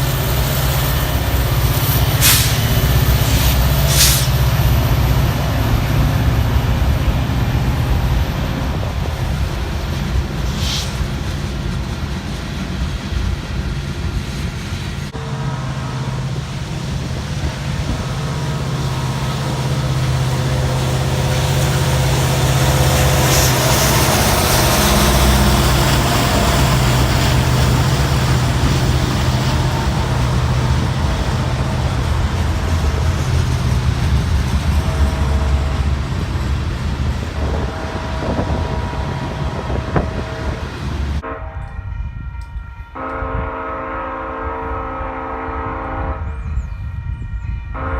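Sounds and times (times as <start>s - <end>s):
diesel locomotive engine drone: 0.0s - 47.9s
train rail noise: 0.0s - 47.9s.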